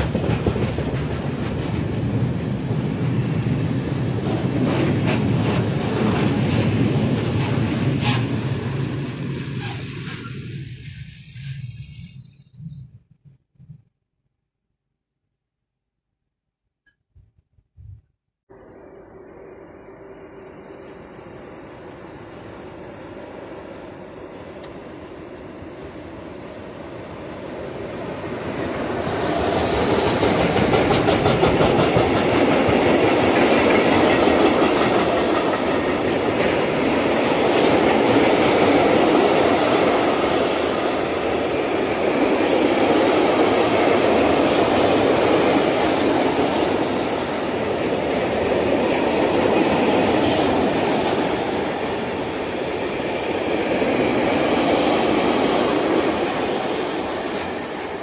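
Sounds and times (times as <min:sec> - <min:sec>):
freight train wheels rumbling: 0:00.0 - 0:13.7, 0:20.1 - 0:58.0.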